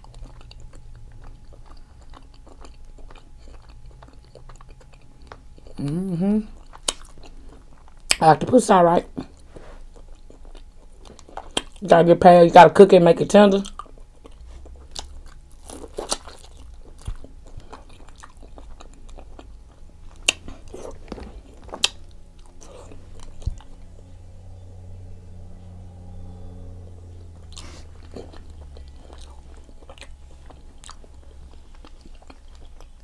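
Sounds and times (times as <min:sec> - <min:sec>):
chewing with wet mouth clicks: 0:00.0 - 0:08.3, 0:09.3 - 0:11.8, 0:13.6 - 0:24.1, 0:27.2 - 0:33.0
low steady hum: 0:00.0 - 0:33.0.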